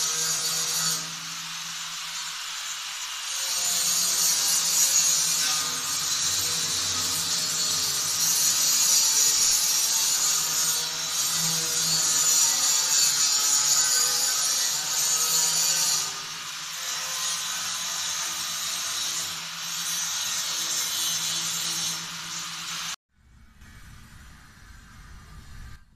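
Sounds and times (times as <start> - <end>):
angle grinder grinding metal: 0.0 - 23.0.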